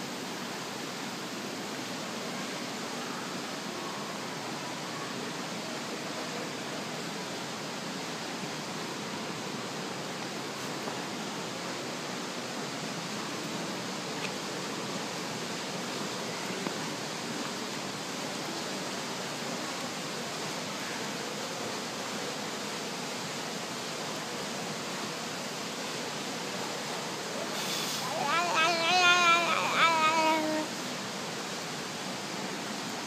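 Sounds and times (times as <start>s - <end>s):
indoor waterfall rushing: 0.0s - 33.0s.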